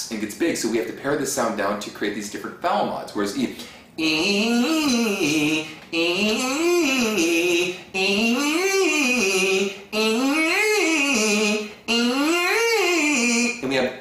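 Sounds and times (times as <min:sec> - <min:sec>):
man singing vocal scales: 0:00.0 - 0:14.0.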